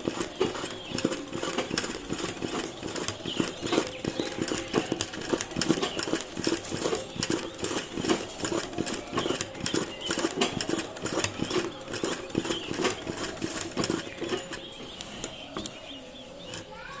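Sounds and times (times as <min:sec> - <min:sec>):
sewing machine clatter: 0:00.0 - 0:17.0.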